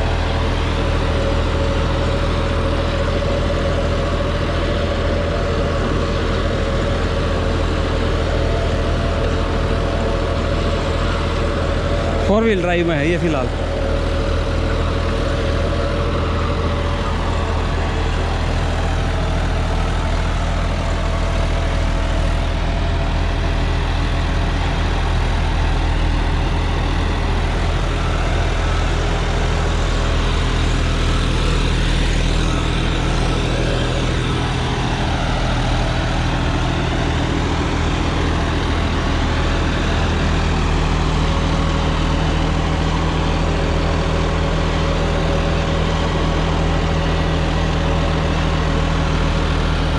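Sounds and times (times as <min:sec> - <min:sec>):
rotavator tilling soil: 0:00.0 - 0:49.9
tractor diesel engine under load: 0:00.0 - 0:49.9.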